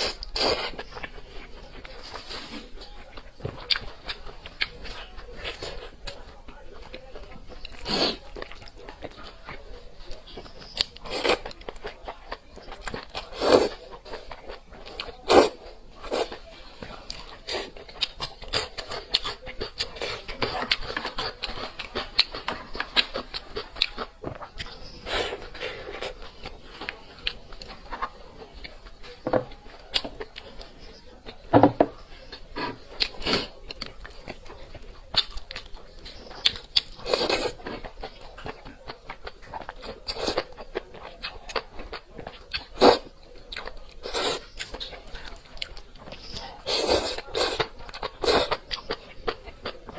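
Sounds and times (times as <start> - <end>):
person chewing crunchy food: 0.0 - 49.9.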